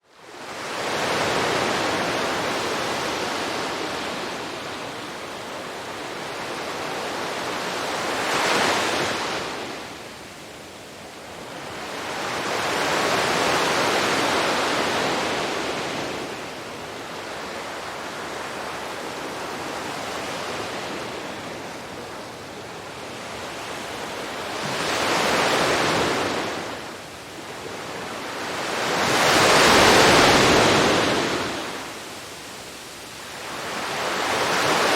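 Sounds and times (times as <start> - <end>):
sea waves breaking on a beach: 0.1 - 34.9.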